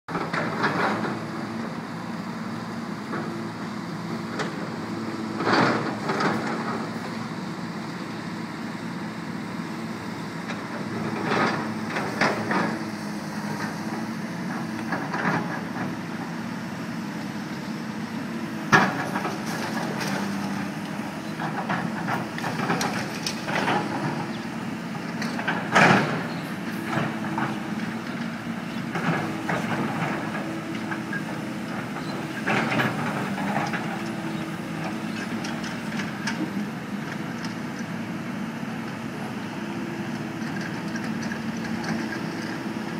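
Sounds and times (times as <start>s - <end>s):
heavy diesel machinery running: 0.1s - 42.9s.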